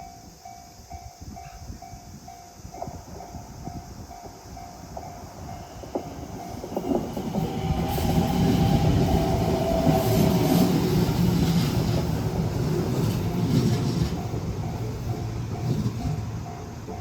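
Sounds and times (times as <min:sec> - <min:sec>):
crossing warning bell dinging: 0:00.0 - 0:17.0
train wheels rumbling on rail: 0:00.8 - 0:17.0.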